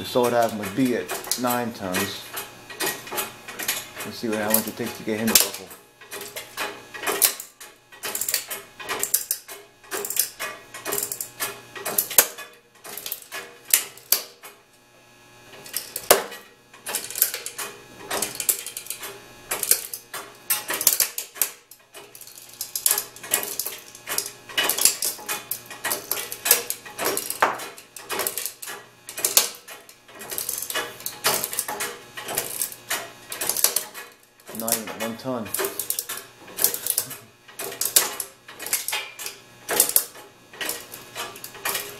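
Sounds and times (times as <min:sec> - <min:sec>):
hydraulic press clicking and clacking: 0:00.0 - 0:14.7, 0:15.5 - 0:41.9.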